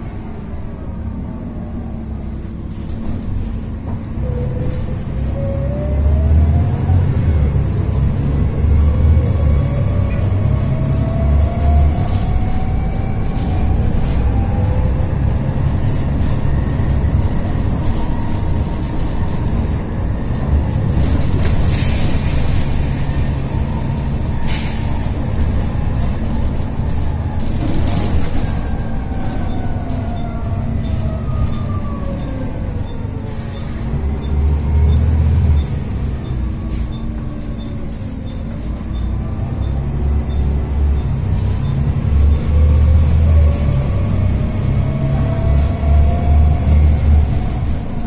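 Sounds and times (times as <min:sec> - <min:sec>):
bus diesel engine rumbling: 0:00.0 - 0:48.0.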